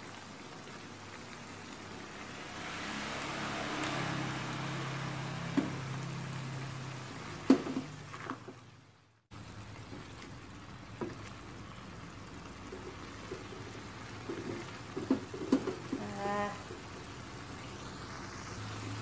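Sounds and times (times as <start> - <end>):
food simmering in a wok: 0.0 - 19.0
low engine hum: 1.3 - 19.0.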